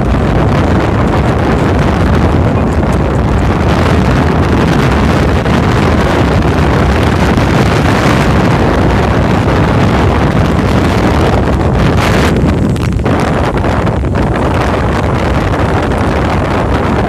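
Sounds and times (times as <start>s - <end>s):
boat engine running: 0.0s - 17.0s
wind buffeting microphone: 0.0s - 17.0s.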